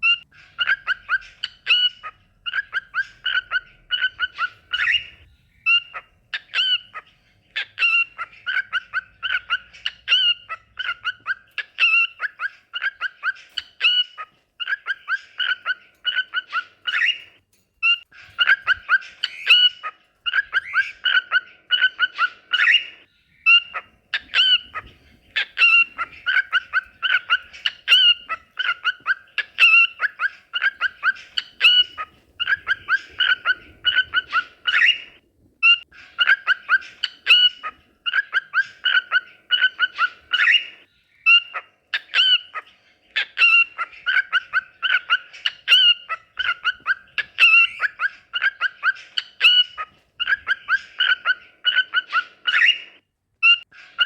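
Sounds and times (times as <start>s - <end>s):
cockatiel chirping and whistling: 0.0s - 7.0s, 7.6s - 42.6s, 43.4s - 53.6s.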